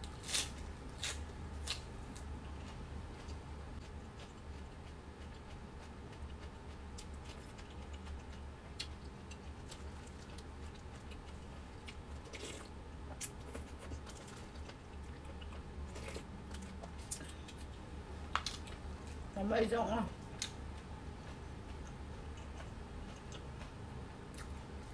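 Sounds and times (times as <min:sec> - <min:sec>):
steady low hum: 0:00.0 - 0:24.9
person chewing and mouth smacks: 0:00.3 - 0:17.7, 0:20.4 - 0:24.9.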